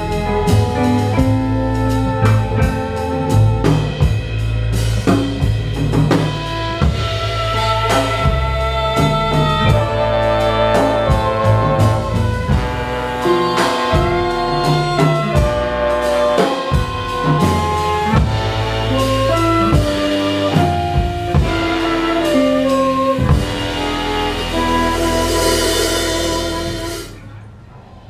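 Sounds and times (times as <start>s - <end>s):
guitars: 0.0s - 27.1s
horn section melody: 0.0s - 27.3s
upright bass: 0.0s - 27.3s
drum kit: 0.0s - 27.6s.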